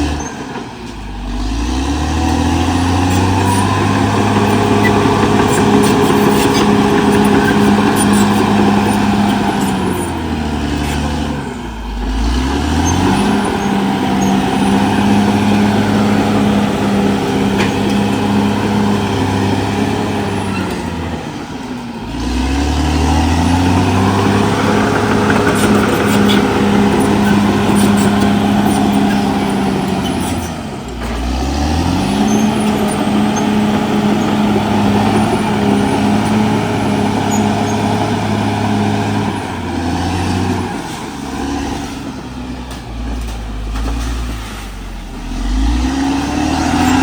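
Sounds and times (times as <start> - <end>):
bulldozer diesel engine under load: 0.0 - 47.0.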